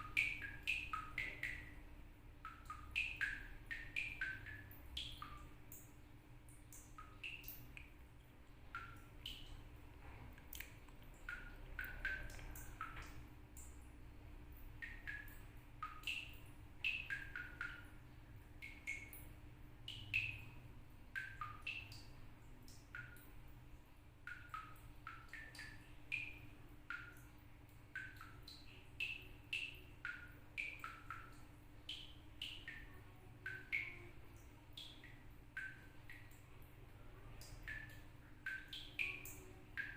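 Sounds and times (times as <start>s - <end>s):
water drops plinking from tap: 0.0s - 8.0s, 8.6s - 9.7s, 10.4s - 13.9s, 14.5s - 23.3s, 24.2s - 36.6s, 37.2s - 39.9s.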